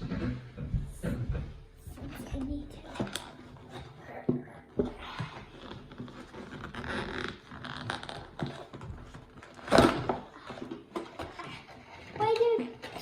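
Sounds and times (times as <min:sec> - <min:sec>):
packaging rustling and scraping: 0:02.2 - 0:13.0.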